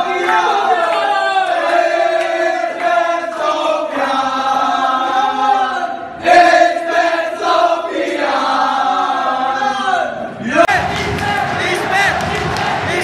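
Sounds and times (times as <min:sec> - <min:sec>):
crowd singing a chant: 0:00.0 - 0:13.0.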